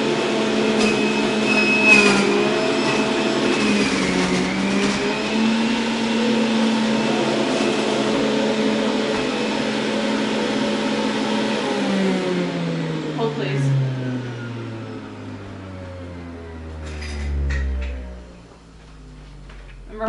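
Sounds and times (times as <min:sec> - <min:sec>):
juicer grinding greens: 0:00.0 - 0:19.7
juicer motor whine: 0:00.0 - 0:19.8.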